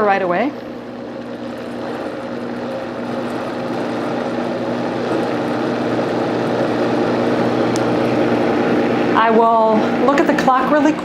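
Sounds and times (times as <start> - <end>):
blender motor running: 0.0 - 11.0.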